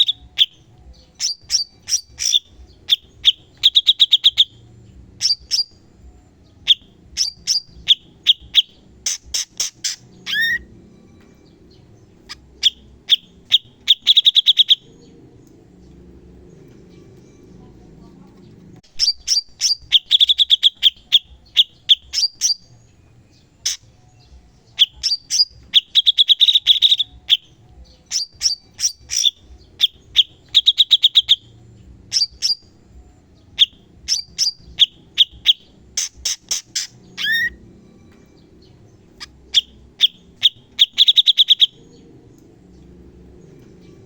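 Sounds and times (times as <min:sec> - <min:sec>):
bird chattering and trilling: 0:00.0 - 0:44.0.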